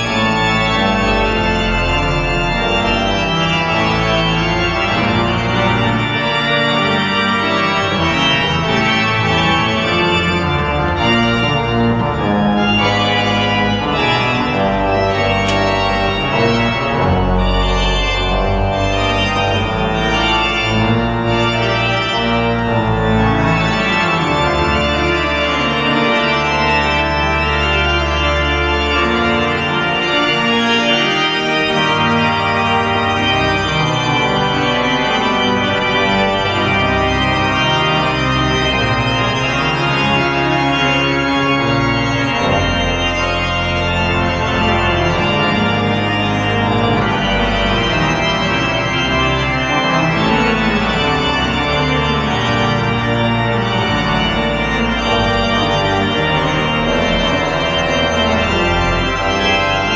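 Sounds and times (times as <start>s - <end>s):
church organ chords: 0.0s - 59.9s
deep organ pedal bass line: 0.0s - 59.9s.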